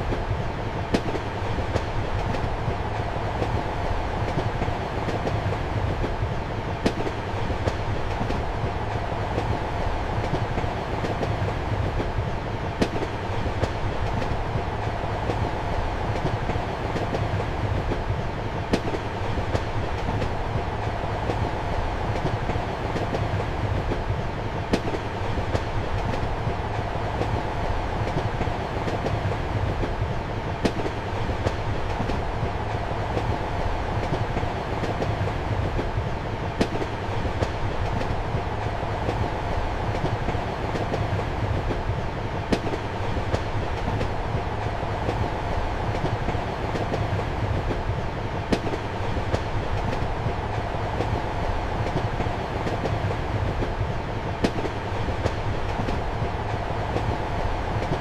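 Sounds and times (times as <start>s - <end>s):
train rumble and hum: 0.0s - 58.0s.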